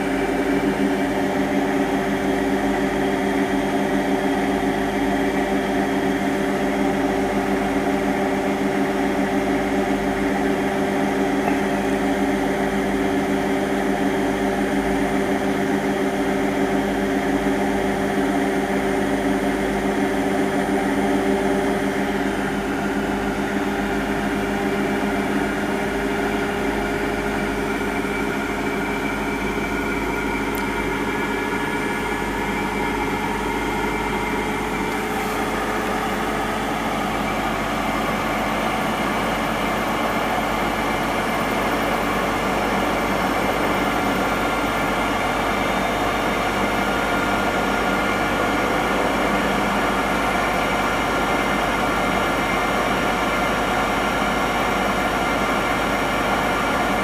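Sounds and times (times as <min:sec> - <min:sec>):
washing machine drum spinning: 0:00.0 - 0:57.0.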